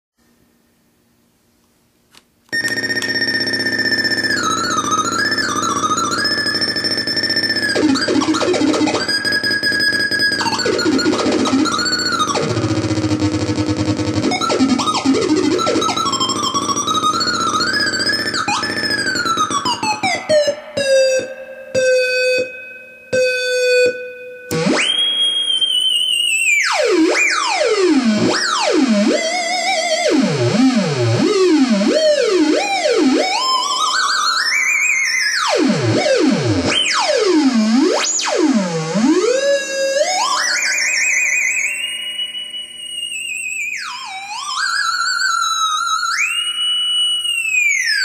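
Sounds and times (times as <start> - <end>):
buzzy theremin tone gliding: 2.6 - 48.0.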